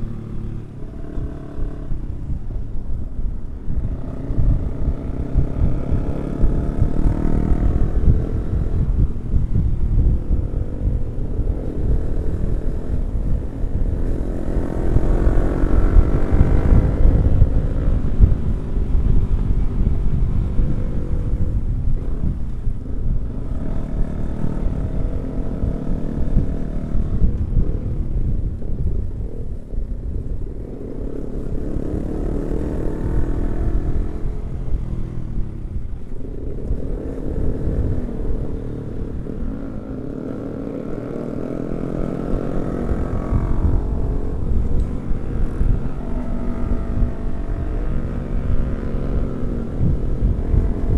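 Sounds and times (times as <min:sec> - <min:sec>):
motorcycle engine accelerating: 0:00.0 - 0:50.9
wind rumble on microphone: 0:00.0 - 0:50.9.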